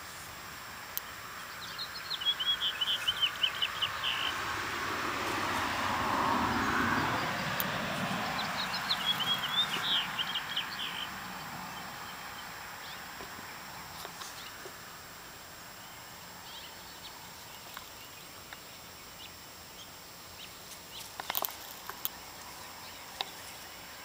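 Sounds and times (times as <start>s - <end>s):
broad rush of noise: 0.0s - 24.0s
songbird chirping: 0.8s - 24.0s.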